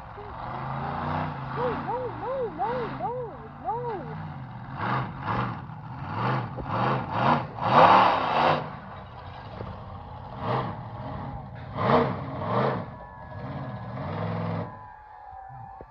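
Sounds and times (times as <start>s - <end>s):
monster truck engine revving: 0.0s - 14.9s.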